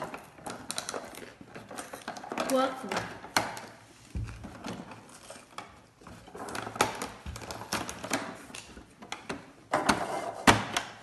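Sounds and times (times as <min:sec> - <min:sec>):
objects clicking on wooden table: 0:00.0 - 0:11.0.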